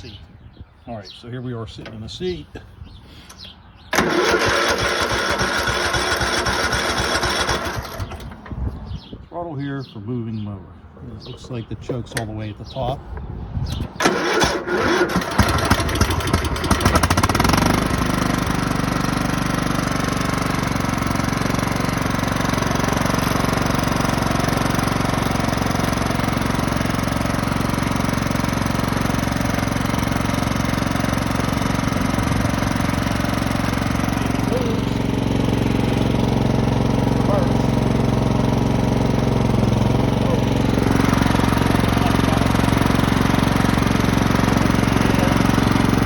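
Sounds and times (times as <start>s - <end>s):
engine cranked by starter: 3.2s - 8.6s, 13.7s - 46.0s
lawn tractor engine running: 3.3s - 8.7s, 13.7s - 46.0s.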